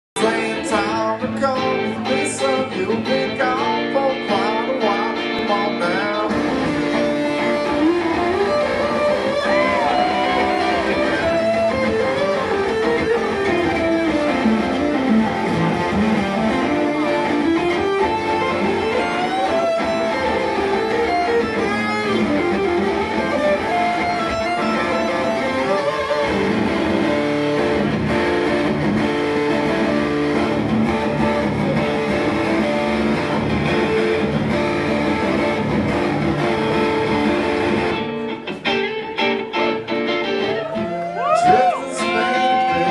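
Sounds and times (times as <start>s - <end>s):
acoustic guitar playing: 0.2s - 42.9s.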